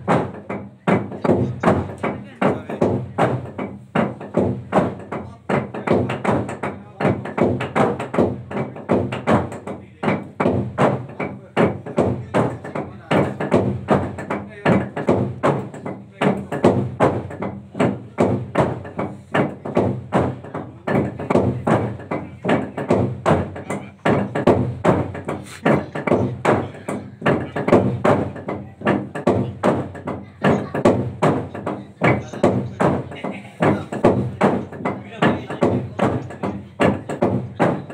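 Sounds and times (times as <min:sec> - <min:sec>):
log drum wooden knocks: 0:00.0 - 0:37.9.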